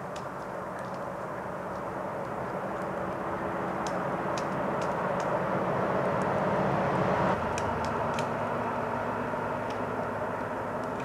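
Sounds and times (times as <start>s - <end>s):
passing vehicle engine rumble: 0.0s - 11.0s.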